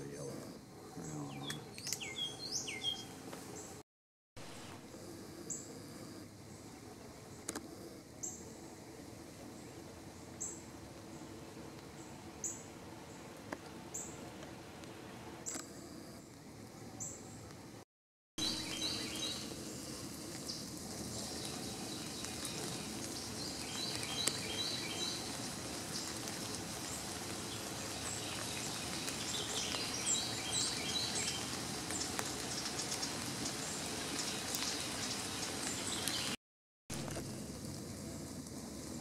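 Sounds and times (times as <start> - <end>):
songbirds chirping: 0.0 - 3.8, 4.5 - 17.7, 18.4 - 36.4
steady outdoor hiss: 0.0 - 3.8, 4.4 - 17.8, 18.4 - 39.0.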